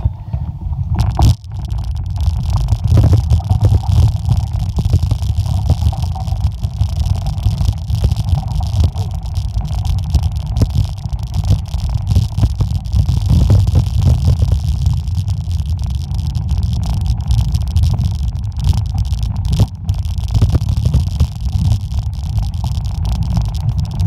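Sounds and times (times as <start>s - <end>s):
wind rumble on microphone: 0.0s - 24.0s
bike tyres crunching gravel: 1.0s - 24.0s.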